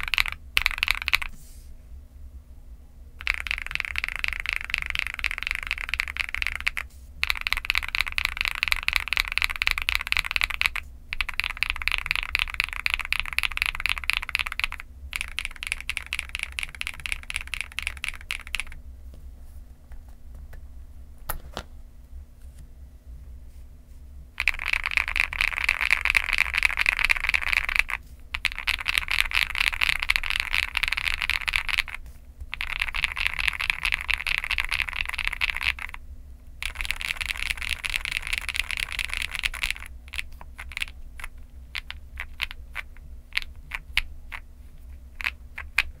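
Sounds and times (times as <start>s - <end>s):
fast typing on mechanical keyboard: 0.0s - 1.4s, 3.2s - 18.8s, 24.4s - 36.0s, 36.6s - 44.4s, 45.1s - 46.0s.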